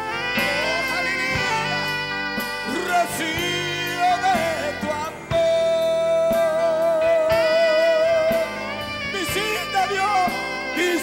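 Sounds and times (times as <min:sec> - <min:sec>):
worship band music: 0:00.0 - 0:11.0.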